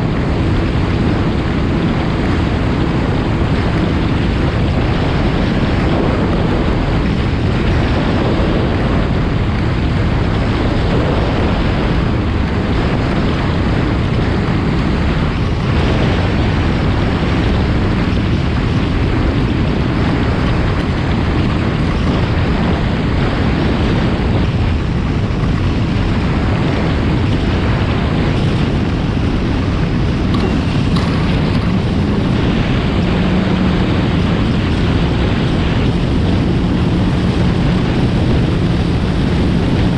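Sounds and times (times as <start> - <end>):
personal watercraft engine: 0.0 - 39.9
wind buffeting microphone: 0.0 - 39.9.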